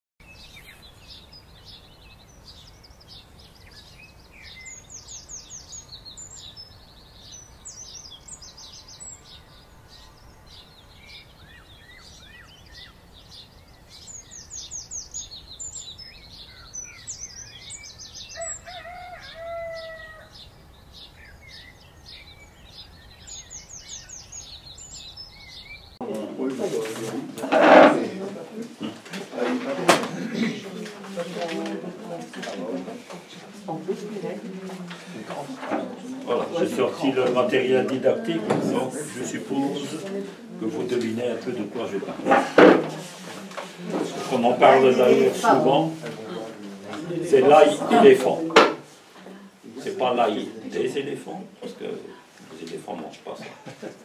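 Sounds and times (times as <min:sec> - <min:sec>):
small birds chirping: 0:00.2 - 0:27.4, 0:30.2 - 0:54.0.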